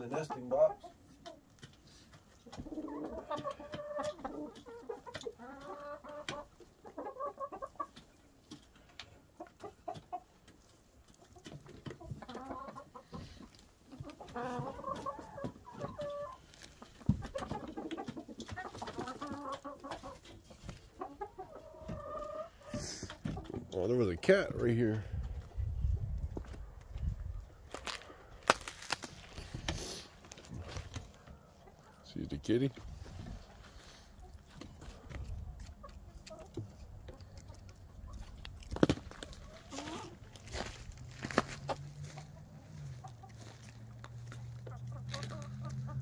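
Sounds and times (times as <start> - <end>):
hens clucking: 0.0 - 46.0.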